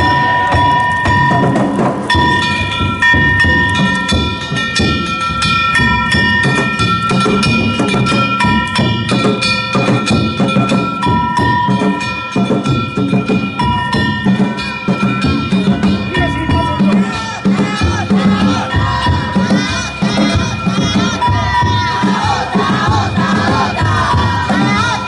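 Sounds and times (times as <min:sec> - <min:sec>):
hand-held gongs struck rapidly: 0:00.0 - 0:25.0
taiko drum beats: 0:00.0 - 0:25.0.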